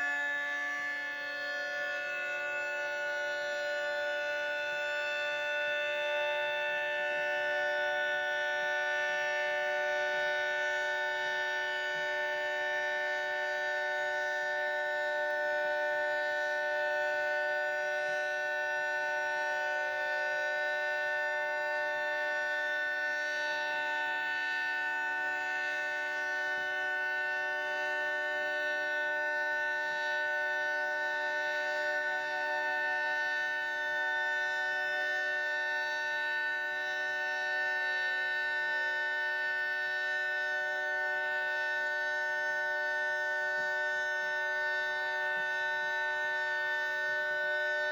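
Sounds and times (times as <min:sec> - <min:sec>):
warning siren steady tone: 0:00.0 - 0:47.9.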